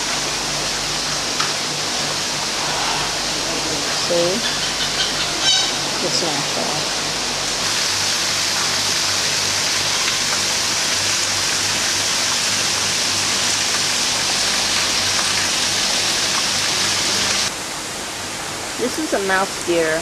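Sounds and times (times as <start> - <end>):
falling water rushing: 0.0 - 20.0.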